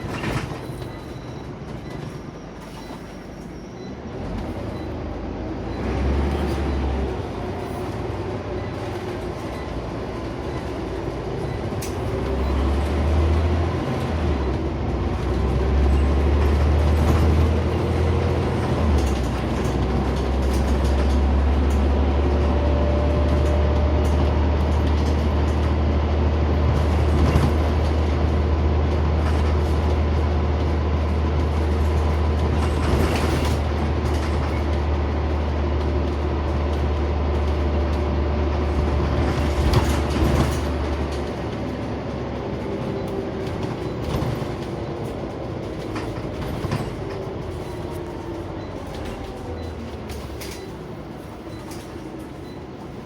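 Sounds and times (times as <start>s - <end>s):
bus body rattling and knocking: 0.0s - 53.0s
bus engine drone: 0.0s - 53.0s
road noise: 0.0s - 53.0s.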